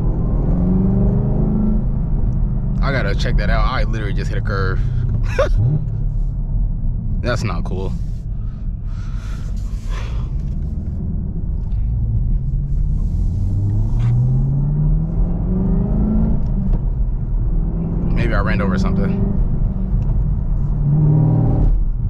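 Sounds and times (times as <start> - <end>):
car engine revving from inside: 0.0 - 8.0, 9.4 - 22.0.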